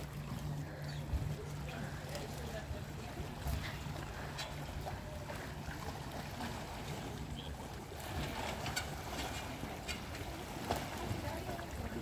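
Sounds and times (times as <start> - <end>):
sea water against rocks: 0.0 - 12.0
wind: 0.0 - 12.0.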